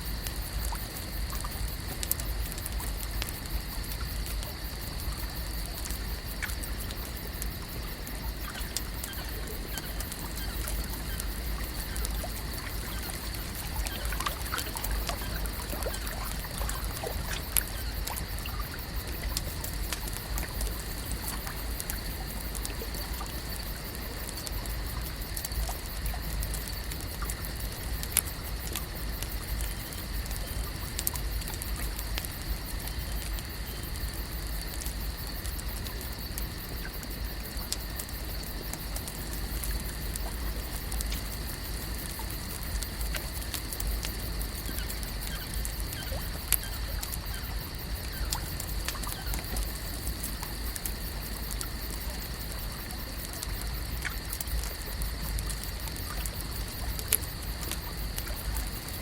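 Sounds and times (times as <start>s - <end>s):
water trickling and lapping: 0.0s - 59.0s.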